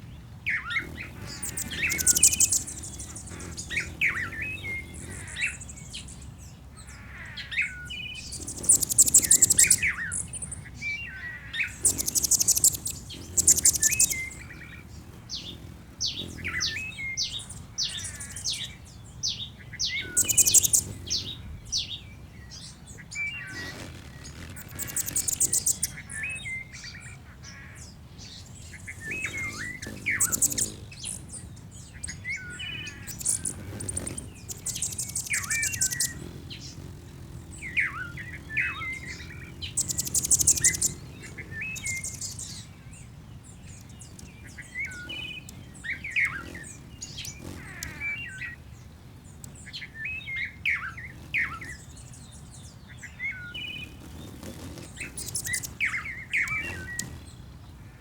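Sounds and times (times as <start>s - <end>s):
birds chirping: 0.0s - 58.0s
high buzzy bird trills: 0.0s - 58.0s.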